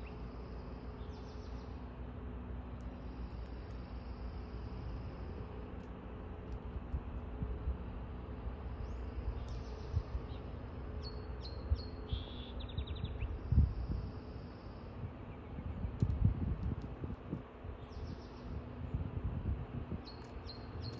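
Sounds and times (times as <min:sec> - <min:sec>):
small birds chirping: 0:00.0 - 0:19.1, 0:19.9 - 0:20.9.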